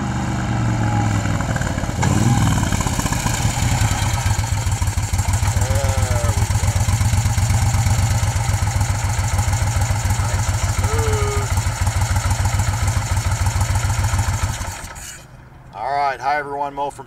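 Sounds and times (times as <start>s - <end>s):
motorcycle engine idling: 0.9s - 15.0s.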